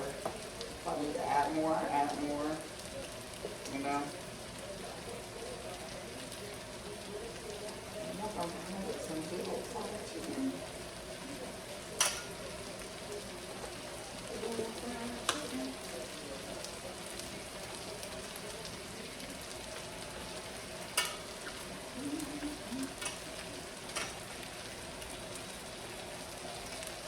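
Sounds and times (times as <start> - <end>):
chicken frying in hot oil: 0.0 - 27.0.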